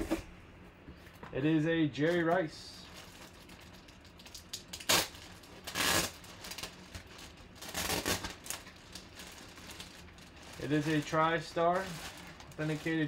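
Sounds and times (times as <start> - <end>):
plastic bag crinkling: 2.0 - 13.0.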